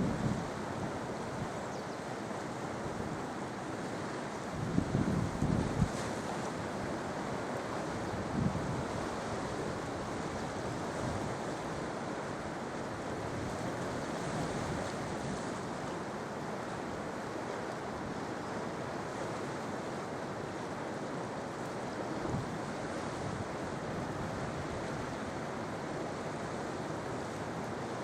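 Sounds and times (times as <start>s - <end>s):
sea surf washing onto shore: 0.0s - 28.0s.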